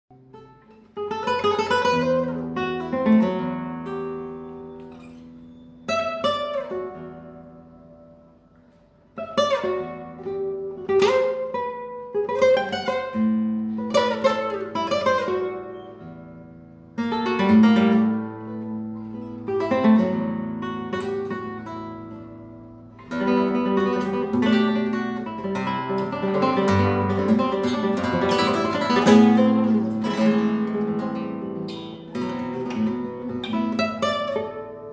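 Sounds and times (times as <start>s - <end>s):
nylon-string guitar playing: 0.1s - 34.9s.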